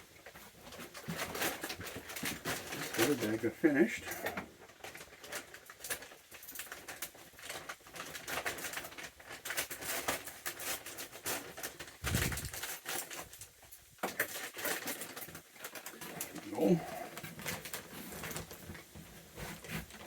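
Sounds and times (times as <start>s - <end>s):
peanut shells crackling and rattling: 0.0s - 18.9s.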